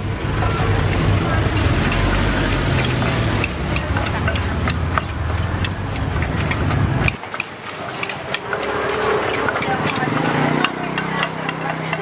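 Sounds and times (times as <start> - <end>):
kitchen utensils clicking: 0.8 - 12.0.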